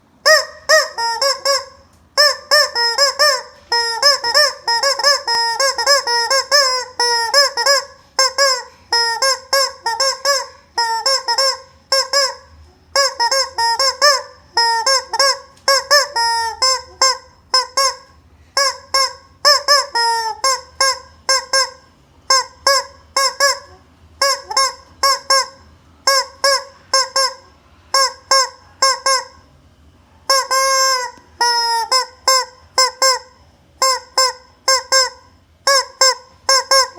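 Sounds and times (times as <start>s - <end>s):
chicken squawking: 0.2s - 29.4s, 30.2s - 36.9s.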